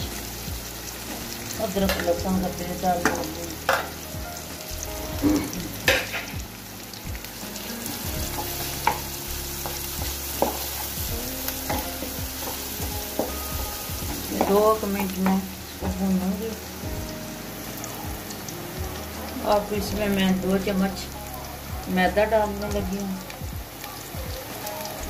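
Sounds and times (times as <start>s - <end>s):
onions sizzling in a pan: 0.0s - 25.0s.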